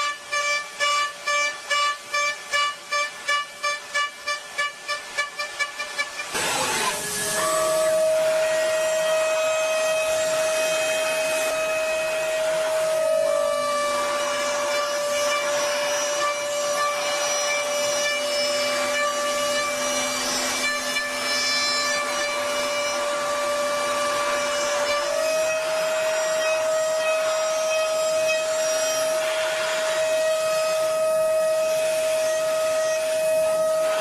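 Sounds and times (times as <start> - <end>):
machine tool motor whine: 6.0 - 34.0.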